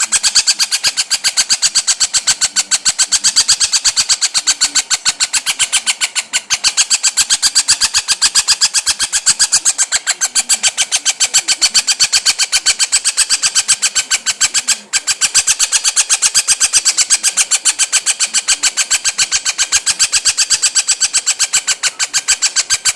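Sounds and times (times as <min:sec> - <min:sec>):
parrot chattering call: 0:00.0 - 0:22.9.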